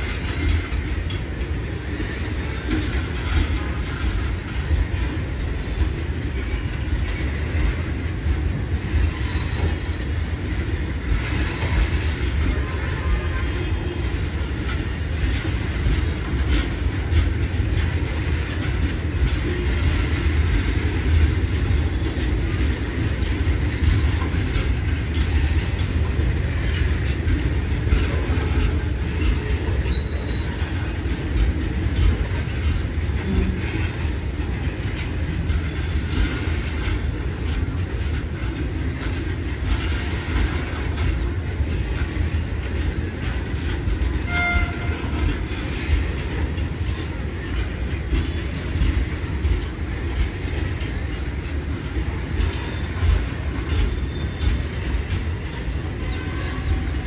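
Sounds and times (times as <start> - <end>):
freight train wheels rumbling: 0.0 - 57.0
wheels clicking over rail joints: 0.0 - 57.0.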